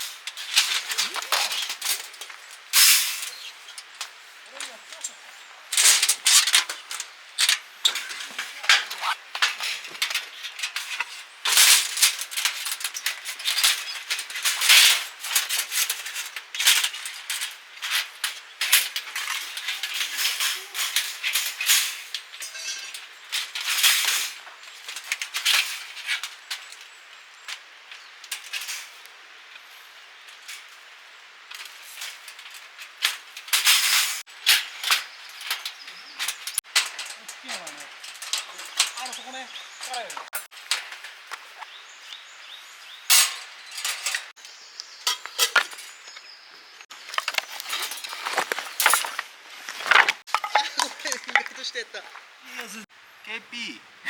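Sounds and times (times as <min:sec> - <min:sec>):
camping gear clattering and rustling: 0:00.0 - 0:52.9.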